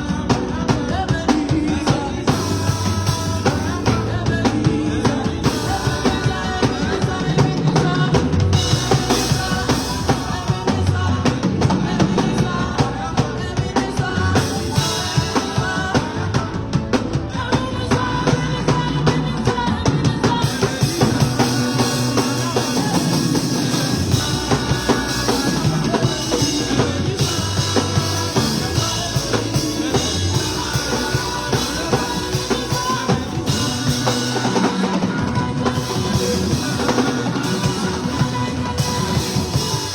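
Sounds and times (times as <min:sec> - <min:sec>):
drum kit beat: 0:00.0 - 0:39.9
live band music: 0:00.0 - 0:39.9.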